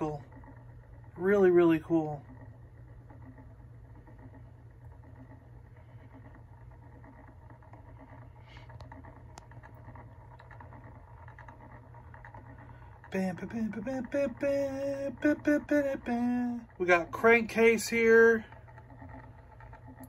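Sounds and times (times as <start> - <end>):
quiet low hum: 0.0 - 20.0
faint ticks: 2.0 - 20.0.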